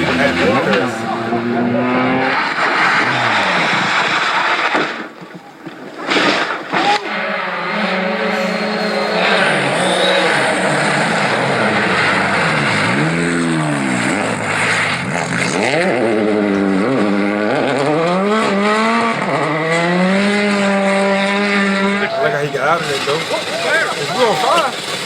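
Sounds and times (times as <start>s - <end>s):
rally car engine revving: 0.0s - 5.2s, 6.0s - 25.0s.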